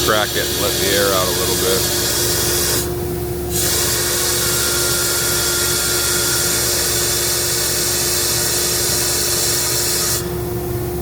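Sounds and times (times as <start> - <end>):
compressed air hissing: 0.0 - 10.3
air compressor humming: 0.0 - 11.0.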